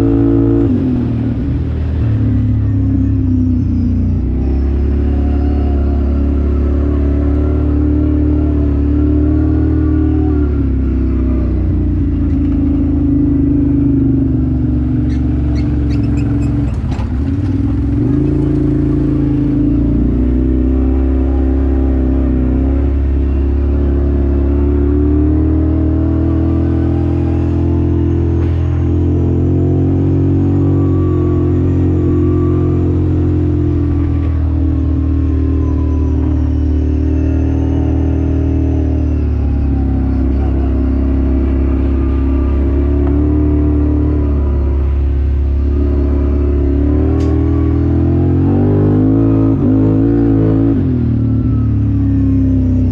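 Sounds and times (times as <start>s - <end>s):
vehicle engine revving: 0.0s - 52.9s.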